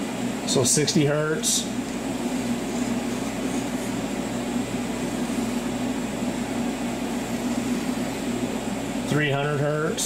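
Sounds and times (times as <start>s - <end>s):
welding machine cooling fan: 0.0s - 10.0s.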